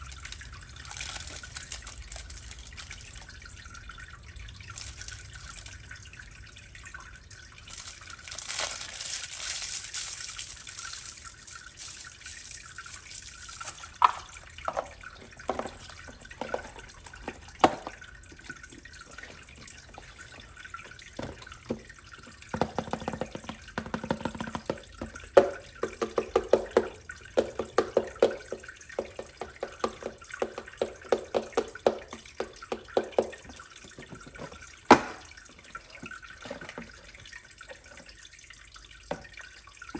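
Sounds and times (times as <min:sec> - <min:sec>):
water drips and plinks: 0:00.0 - 0:39.9.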